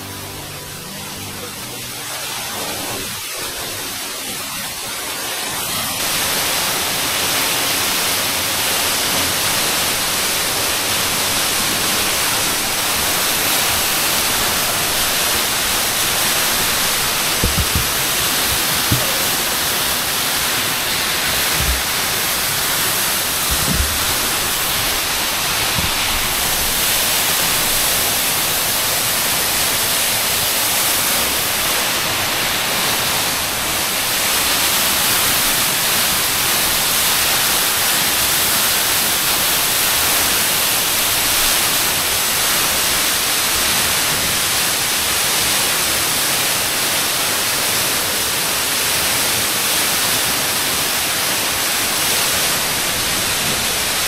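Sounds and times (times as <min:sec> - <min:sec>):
waterfall rushing onto rocks: 0:00.0 - 0:54.0.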